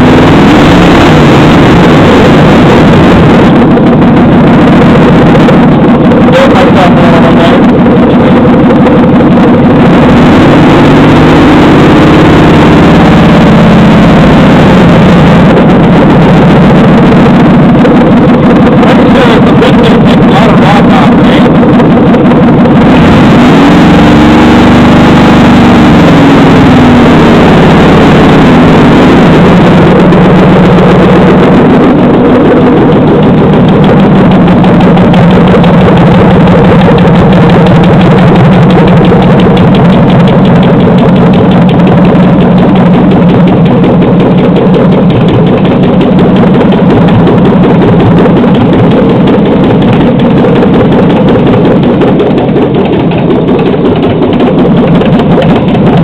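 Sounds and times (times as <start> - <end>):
car engine idling and revving: 0.0 - 56.0
engine ticking: 0.0 - 56.0.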